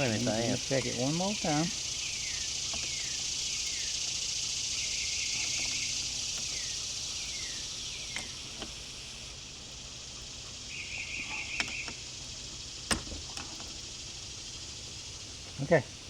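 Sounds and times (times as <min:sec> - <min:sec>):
bird trill: 0:00.0 - 0:13.1
insects hissing: 0:00.0 - 0:16.0.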